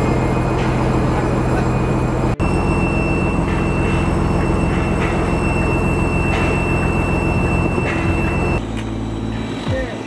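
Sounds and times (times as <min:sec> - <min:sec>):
diesel engine drone: 0:00.0 - 0:10.0
high-pitched whine: 0:00.0 - 0:10.0.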